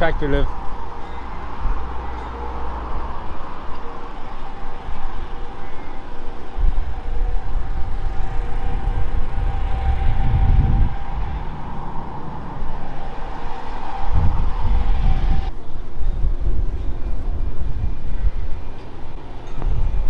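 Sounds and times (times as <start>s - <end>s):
engine hum: 0.0s - 20.0s
wind buffeting microphone: 0.0s - 20.0s.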